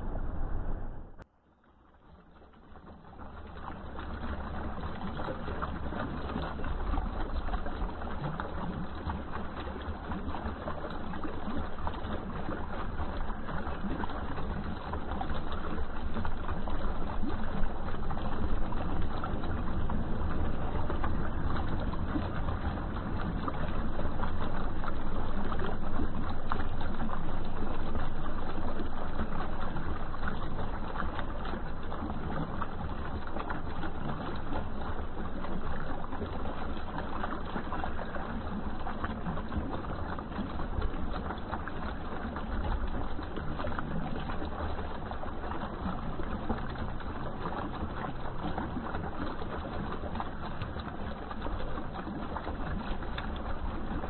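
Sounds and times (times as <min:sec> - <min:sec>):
fountain water splashing over rocks: 0:01.5 - 0:54.0.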